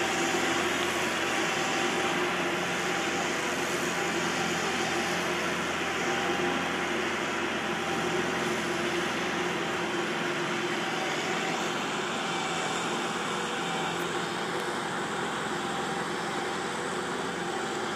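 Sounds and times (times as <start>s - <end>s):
machinery engine drone: 0.0s - 17.9s.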